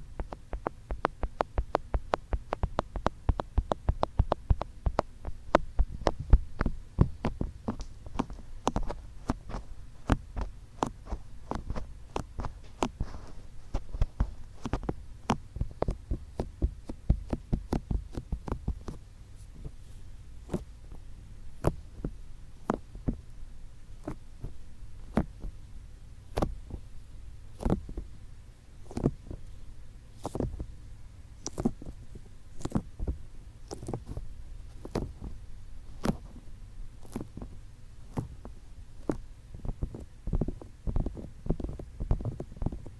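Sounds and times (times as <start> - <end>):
fingertips tapping microphone: 0.0 - 23.4, 24.0 - 25.6, 26.3 - 28.2, 28.8 - 29.6, 30.2 - 30.8, 31.4 - 42.9.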